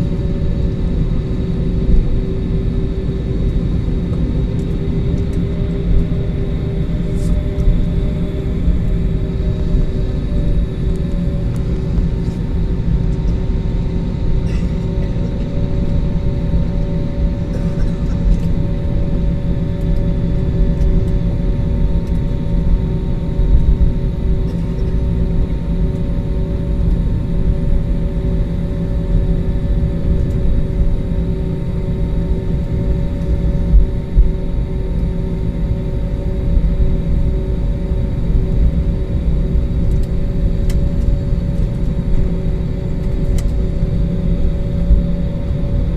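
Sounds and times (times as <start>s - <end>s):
jet engine cabin rumble: 0.0s - 45.9s.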